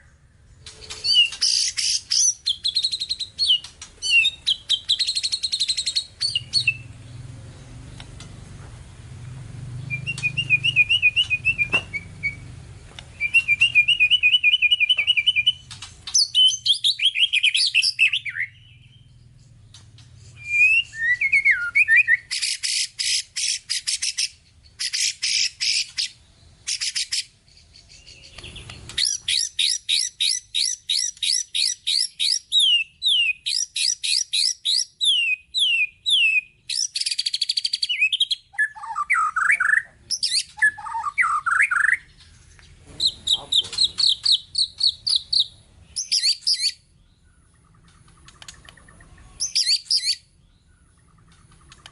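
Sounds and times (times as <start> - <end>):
bird singing varied song: 0.0 - 51.9.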